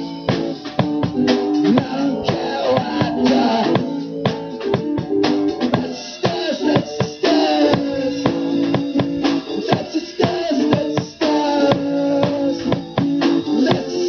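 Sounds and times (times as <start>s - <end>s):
drum kit: 0.0s - 14.0s
guitar chords: 0.0s - 14.0s.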